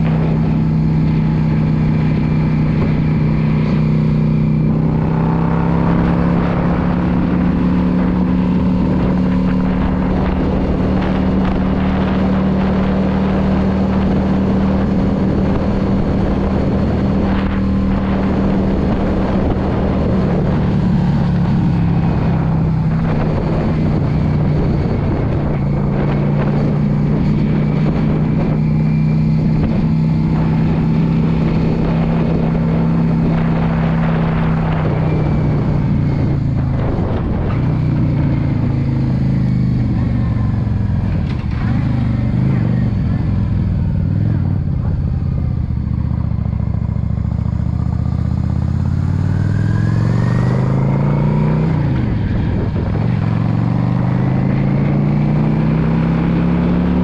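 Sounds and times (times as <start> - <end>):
motorcycle engine running: 0.0 - 57.0
wind and road rush: 0.0 - 57.0.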